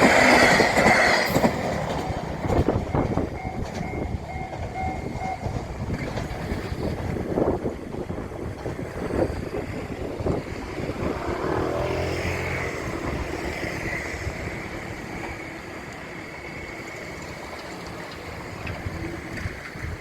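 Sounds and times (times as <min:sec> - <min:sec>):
train running rumble: 0:00.0 - 0:20.0
wheels clacking over rail joints: 0:00.0 - 0:20.0.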